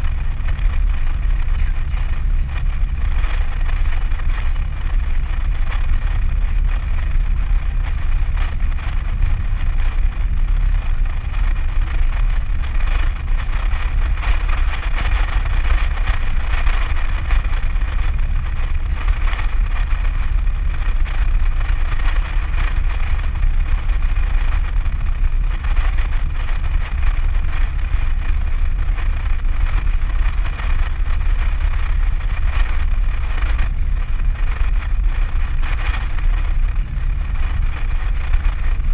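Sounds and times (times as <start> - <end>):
low road rumble in cab: 0.0 - 38.9.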